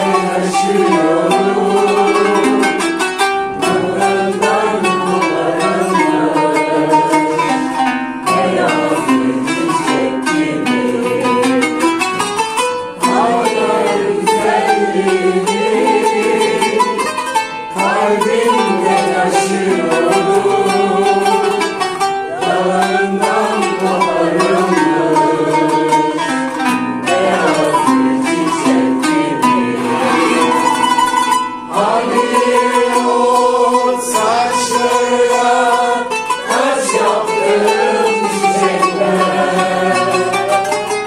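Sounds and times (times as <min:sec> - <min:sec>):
person singing: 0:00.0 - 0:41.0
plucked zither melody: 0:00.0 - 0:41.0.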